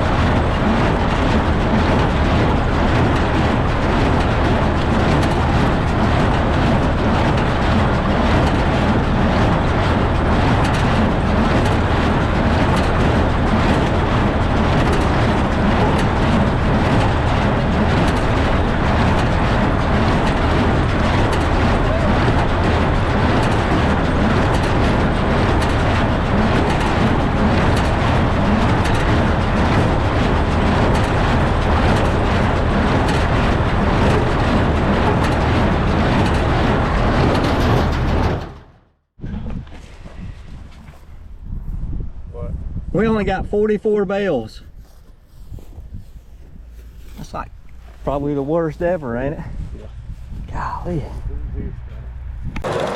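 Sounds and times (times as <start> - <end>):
tractor engine running: 0.0 - 42.0, 44.3 - 52.9.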